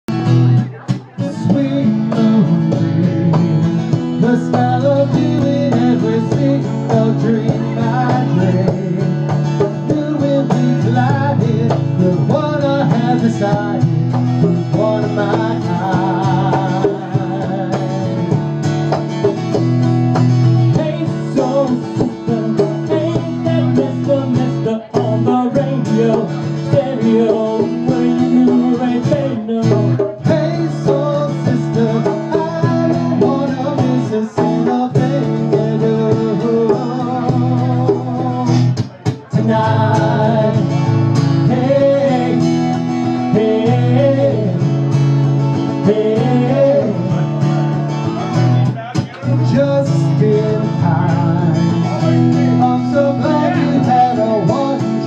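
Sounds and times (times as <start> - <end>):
live band with guitar: 0.0 - 55.0.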